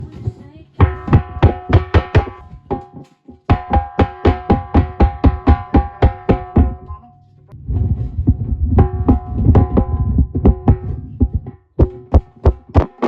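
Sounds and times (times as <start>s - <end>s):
pitched percussion beat: 0.1s - 7.0s, 8.3s - 13.0s.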